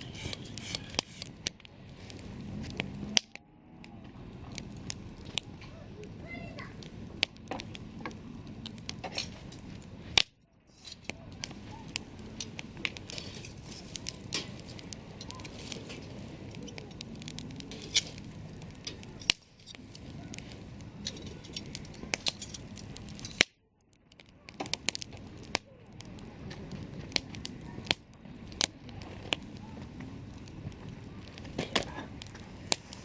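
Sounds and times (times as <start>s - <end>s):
hiss of burning: 0.0s - 23.5s, 24.4s - 33.0s
campfire crackling and popping: 0.0s - 33.0s.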